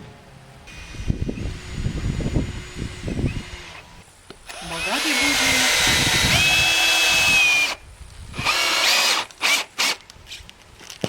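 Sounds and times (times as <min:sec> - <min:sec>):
cordless drill motor whining: 0:00.7 - 0:10.0.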